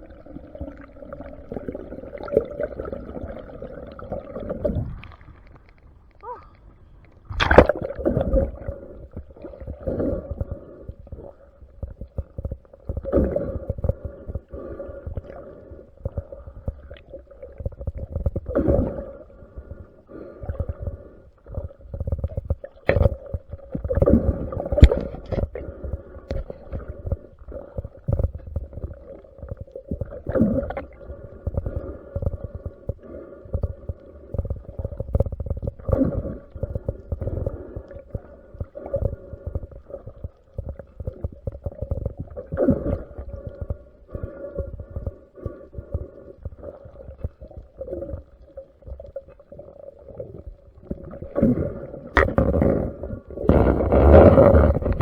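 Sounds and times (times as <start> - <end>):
muffled underwater water movement: 0.0 - 55.0.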